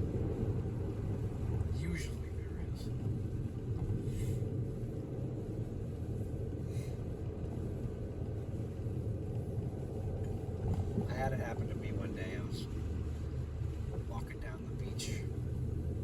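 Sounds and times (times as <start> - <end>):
car driving heard from cabin: 0.0 - 16.0.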